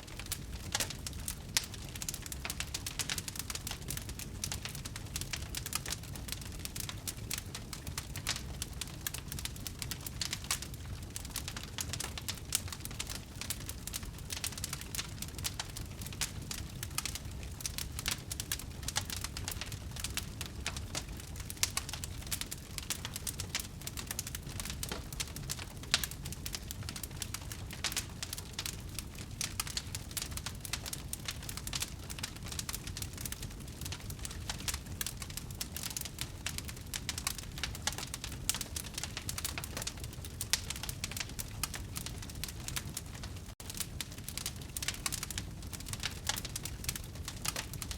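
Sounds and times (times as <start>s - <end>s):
burning wood crackling: 0.0s - 47.9s
fire popping: 0.0s - 47.9s
low fire rumble: 0.0s - 47.9s.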